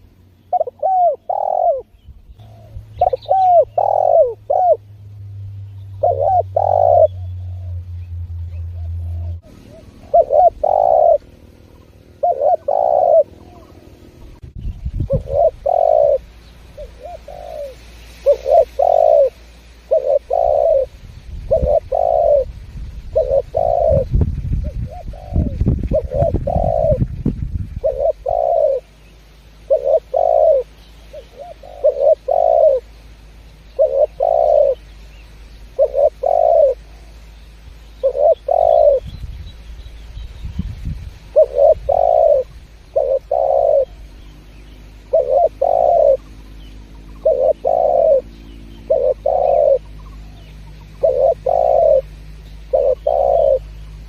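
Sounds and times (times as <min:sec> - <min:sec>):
dove cooing: 0:00.0 - 0:05.0, 0:05.9 - 0:29.0, 0:29.6 - 0:33.0, 0:33.6 - 0:35.0, 0:35.7 - 0:37.2, 0:38.0 - 0:39.2, 0:41.2 - 0:54.0.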